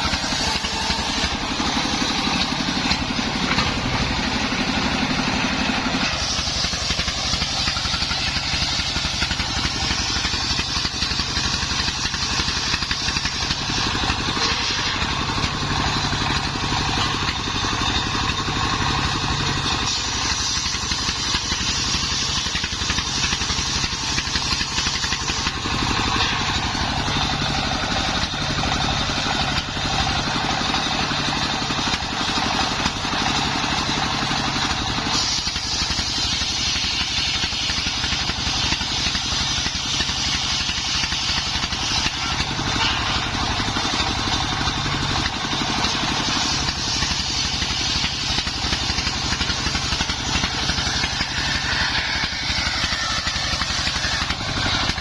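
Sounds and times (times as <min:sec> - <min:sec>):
circular sawmill sawing timber: 0:00.0 - 0:55.0.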